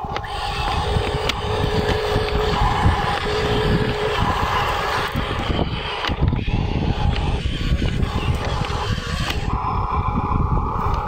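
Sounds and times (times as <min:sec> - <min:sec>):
steady low rumbling: 0:00.0 - 0:11.0
toy truck electric motor whining: 0:00.0 - 0:11.0.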